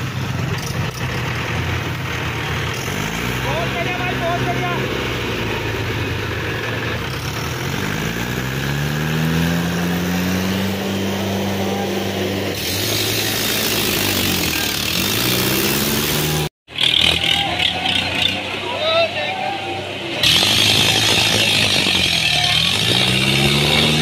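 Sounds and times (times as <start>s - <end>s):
tractor engines under load: 0.0s - 24.0s.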